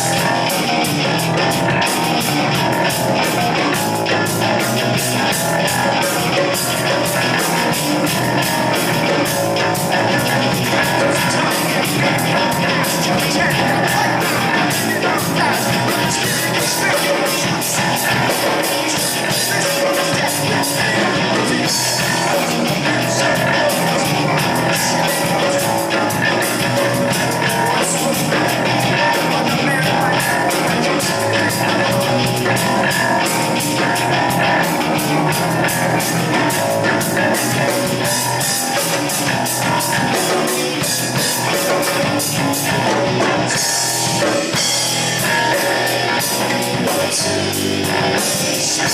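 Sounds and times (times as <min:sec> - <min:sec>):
distorted guitar: 0:00.0 - 0:48.9
drum kit cymbals: 0:00.0 - 0:48.9
live rock band: 0:00.0 - 0:48.9.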